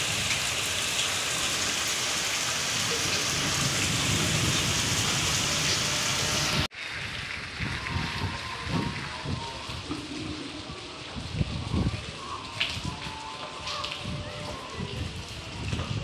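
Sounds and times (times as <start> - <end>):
heavy rain on standing water: 0.0 - 16.0.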